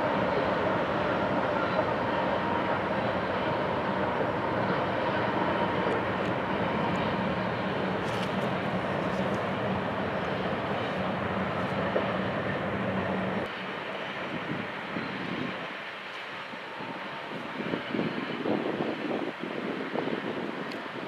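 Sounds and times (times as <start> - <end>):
freight cars rolling on rails: 0.0 - 19.8
diesel locomotive engine: 0.0 - 21.0.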